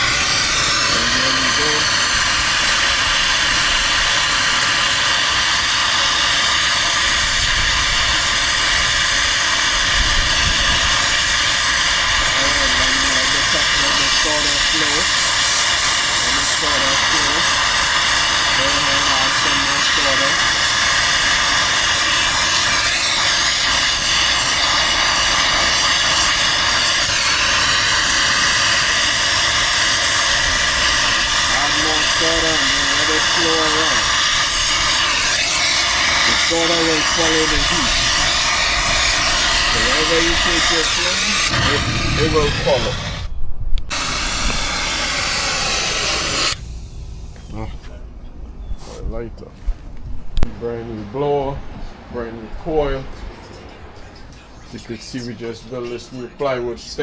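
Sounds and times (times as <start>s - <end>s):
torch flame hissing: 0.0s - 48.2s.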